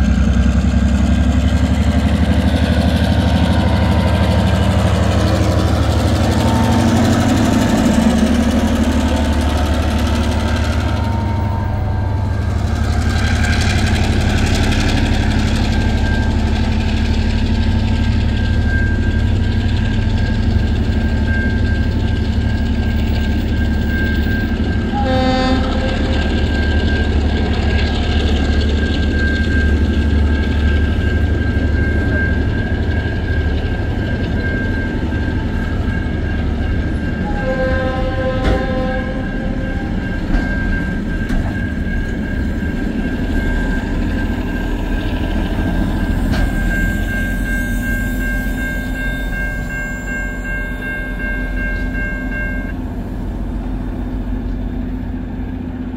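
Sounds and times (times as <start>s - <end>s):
freight wagons rumbling: 0.0s - 55.9s.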